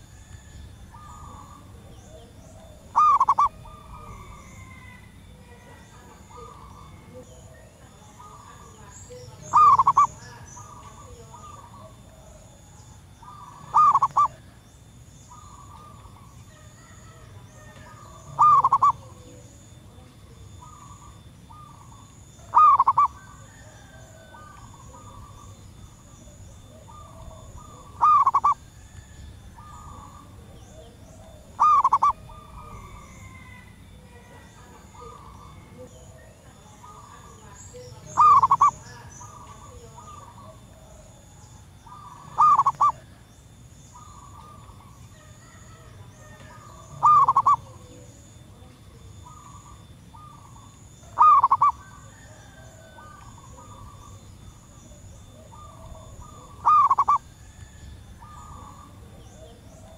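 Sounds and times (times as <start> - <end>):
dove calling: 0.0 - 59.9
faint bird calls: 0.0 - 59.9.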